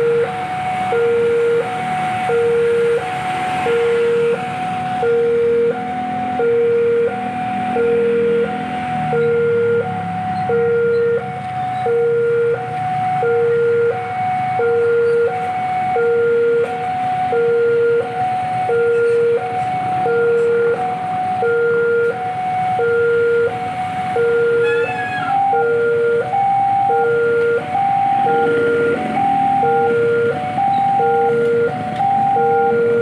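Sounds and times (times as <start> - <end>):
level crossing two-tone alarm: 0.0 - 33.0
low engine rumble: 0.0 - 33.0.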